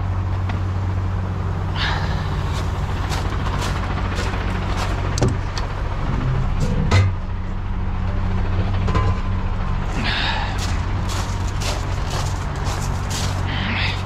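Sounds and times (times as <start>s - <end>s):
truck diesel engine idling: 0.1s - 14.0s.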